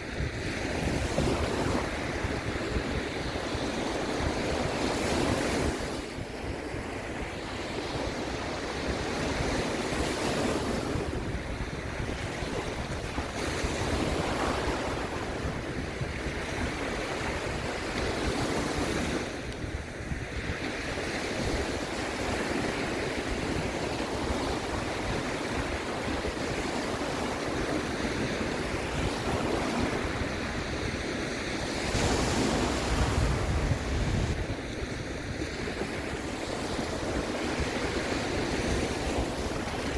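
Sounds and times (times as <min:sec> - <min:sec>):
sea waves washing in: 0:00.0 - 0:39.9
wind rumbling on microphone: 0:00.0 - 0:39.9.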